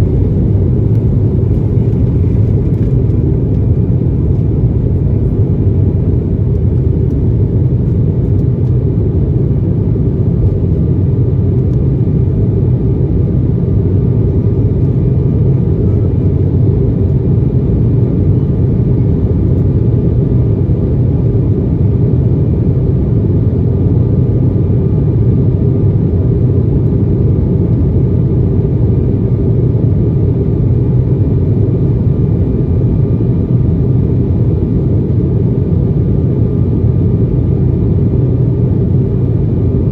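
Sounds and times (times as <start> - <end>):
aircraft cabin engine rumble: 0.0 - 39.9
faint steady whine: 0.0 - 39.9.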